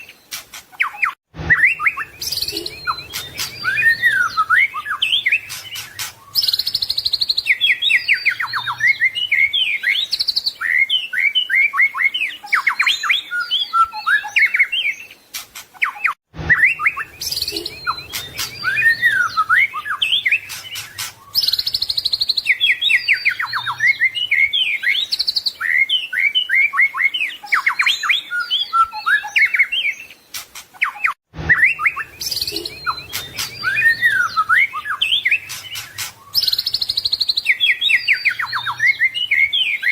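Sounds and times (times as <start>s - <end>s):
songbird singing whistles and trills: 0.0s - 39.9s.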